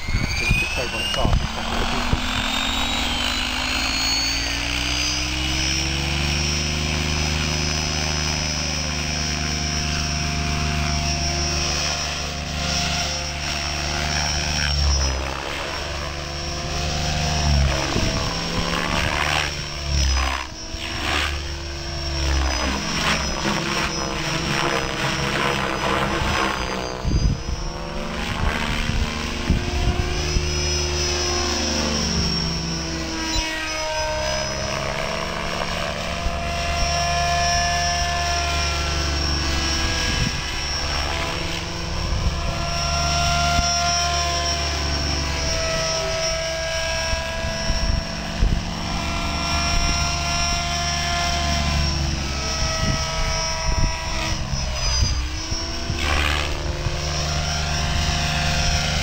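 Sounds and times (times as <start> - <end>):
rc helicopter motor whine: 0.0 - 59.0.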